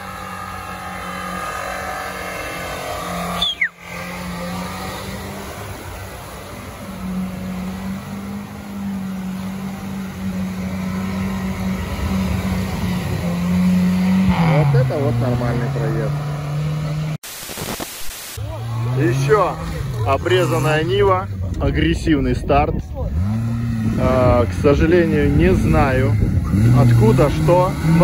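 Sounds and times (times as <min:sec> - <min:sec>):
race car engine running hard: 0:00.0 - 0:17.2, 0:18.4 - 0:28.0.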